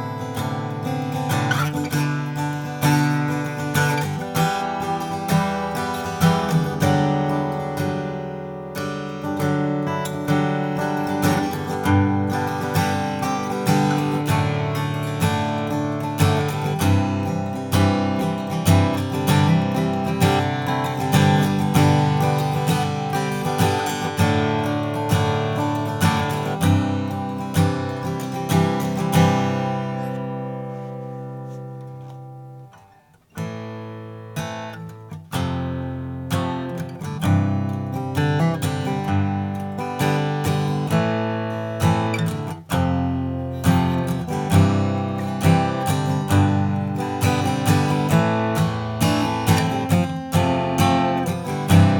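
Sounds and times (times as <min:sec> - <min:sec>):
acoustic guitar playing: 0:00.0 - 0:51.9.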